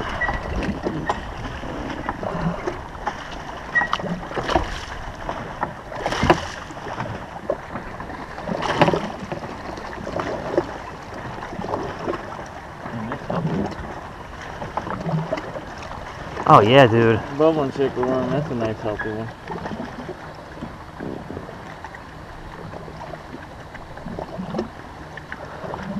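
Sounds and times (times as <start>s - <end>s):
water splashing: 0.0s - 25.9s.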